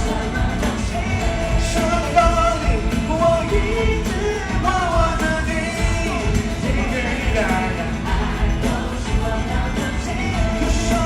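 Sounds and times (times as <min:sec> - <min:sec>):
live pop-rock band playing: 0:00.0 - 0:11.0
person singing: 0:00.0 - 0:11.0.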